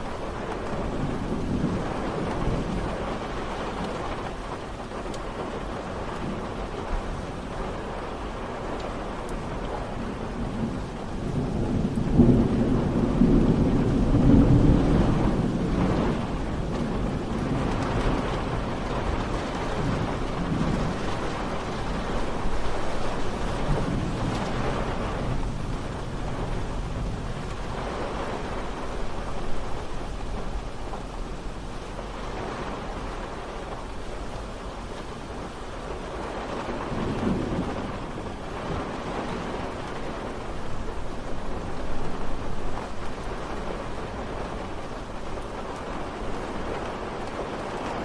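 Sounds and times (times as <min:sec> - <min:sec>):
distant thunder rumbling: 0:00.0 - 0:48.0
steady rain falling: 0:00.0 - 0:48.0.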